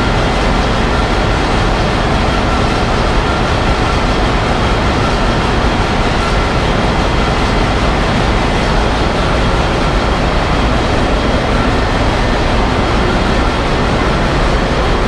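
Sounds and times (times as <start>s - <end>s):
ship engine room din: 0.0s - 15.0s.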